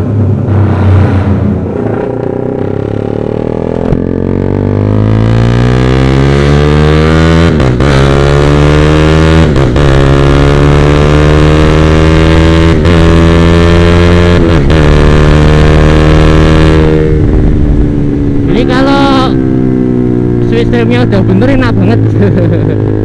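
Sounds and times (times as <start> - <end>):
motorcycle engine at full throttle: 0.0 - 23.0.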